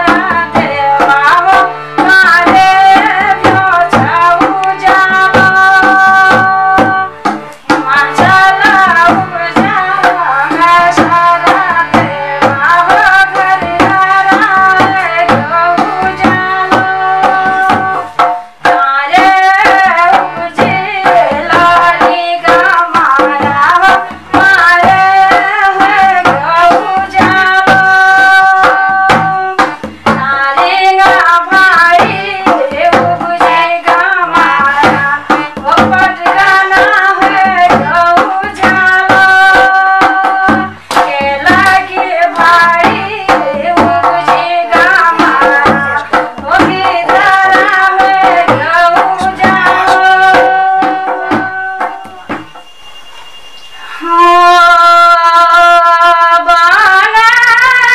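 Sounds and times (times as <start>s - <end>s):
woman singing: 0.0s - 52.5s, 53.8s - 57.9s
hand drum beat: 0.0s - 53.4s.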